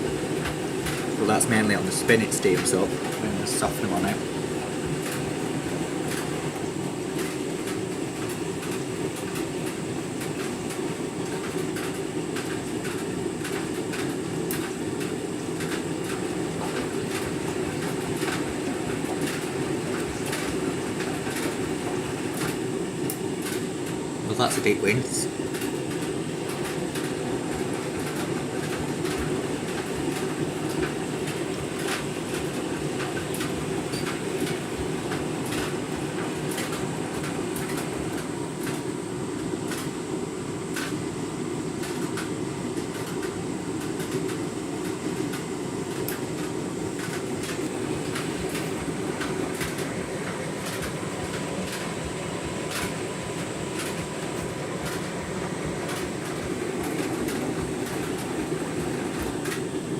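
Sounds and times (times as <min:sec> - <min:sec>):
washing machine drum churning: 0:00.0 - 0:59.9.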